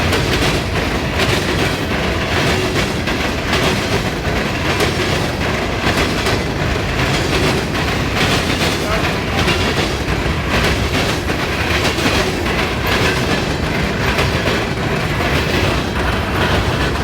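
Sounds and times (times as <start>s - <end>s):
heavy rail rumble: 0.0s - 17.0s
train wheels clattering over crossing: 0.0s - 17.0s.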